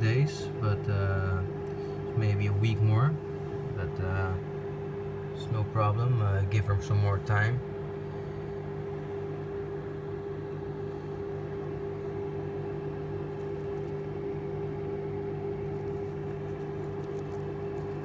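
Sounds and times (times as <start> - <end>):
small electric fans whirring: 0.0 - 18.0.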